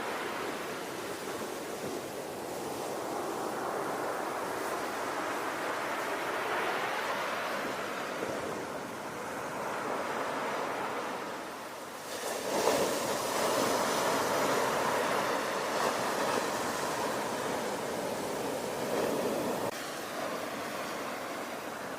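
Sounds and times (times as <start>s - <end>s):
ocean waves washing on shore: 0.0s - 21.9s.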